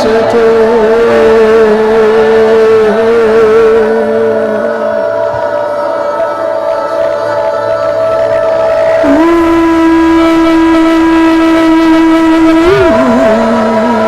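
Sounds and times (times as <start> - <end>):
slow worship music: 0.0 - 14.0.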